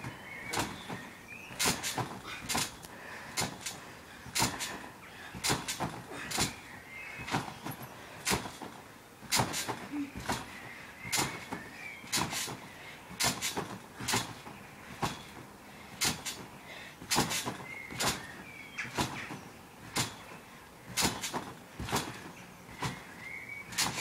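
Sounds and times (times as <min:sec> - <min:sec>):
trampoline thump and spring clunk: 0:00.0 - 0:24.0.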